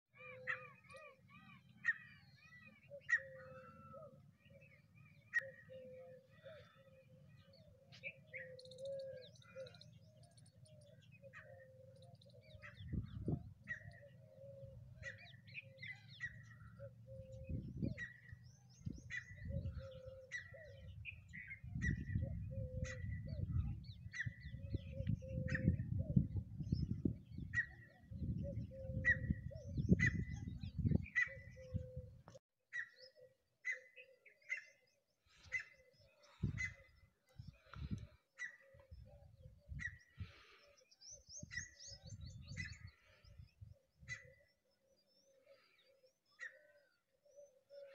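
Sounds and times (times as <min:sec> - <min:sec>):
birds chirping and calling: 0:00.1 - 0:47.9.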